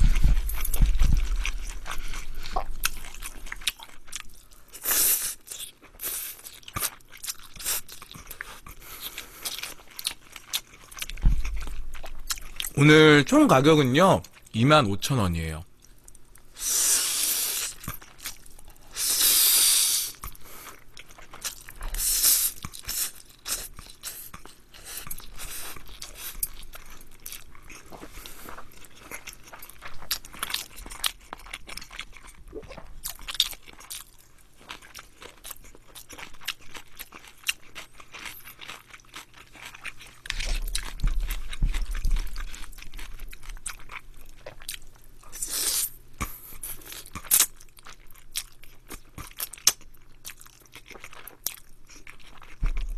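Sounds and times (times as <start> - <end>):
wet chewing: 0.0 - 12.8, 20.0 - 52.9.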